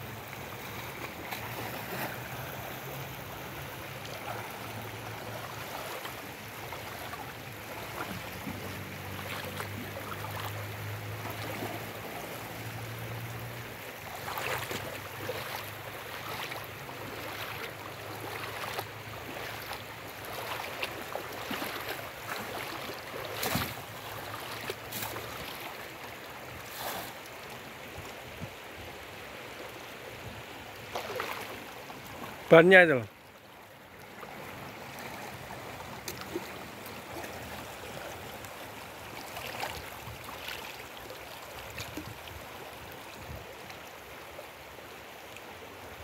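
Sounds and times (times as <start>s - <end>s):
water splashing from buckets: 0.0s - 28.1s, 30.6s - 33.2s, 33.8s - 44.2s
shallow river water running: 0.0s - 46.0s.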